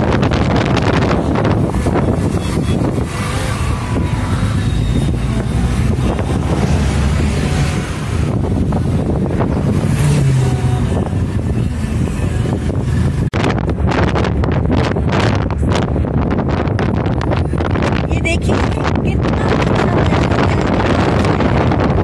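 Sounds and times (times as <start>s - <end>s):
car road and engine rumble: 0.0s - 22.0s
wind buffeting microphone: 0.0s - 22.0s.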